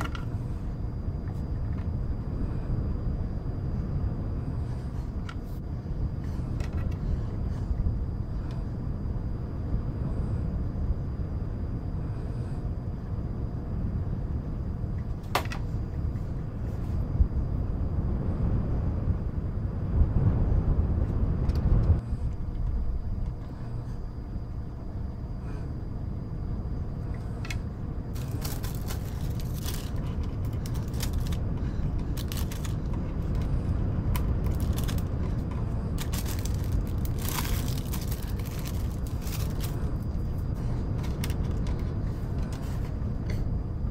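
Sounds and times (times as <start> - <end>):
white noise: 0.0 - 43.9
wind rumble: 0.0 - 43.9.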